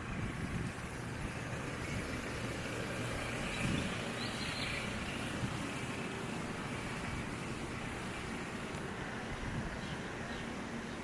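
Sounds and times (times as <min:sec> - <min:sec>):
roadside low rumble: 0:00.0 - 0:11.0.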